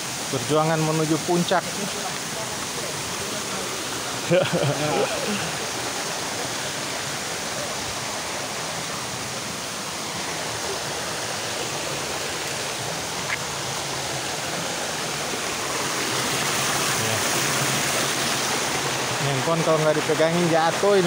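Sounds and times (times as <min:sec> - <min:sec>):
stream running over rocks: 0:00.0 - 0:21.0
waterfall rushing: 0:00.0 - 0:21.0.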